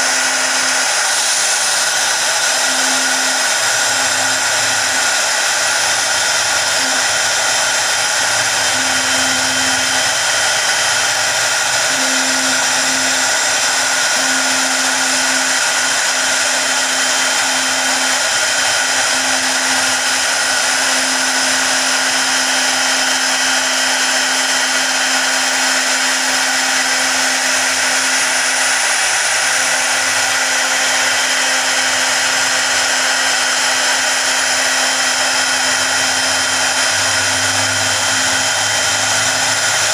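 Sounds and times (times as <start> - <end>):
bit cutting into wood: 0.0 - 39.9
router spindle whine: 0.0 - 39.9.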